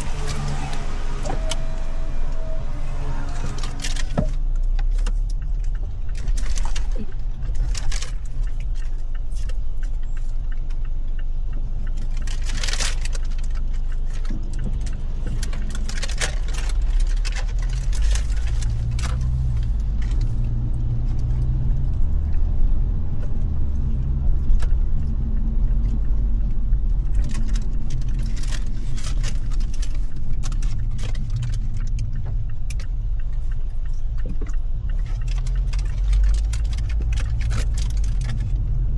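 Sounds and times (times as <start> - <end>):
low engine rumble: 0.0 - 38.9
sharp clicks and light rattles: 3.6 - 21.3, 23.2 - 38.9.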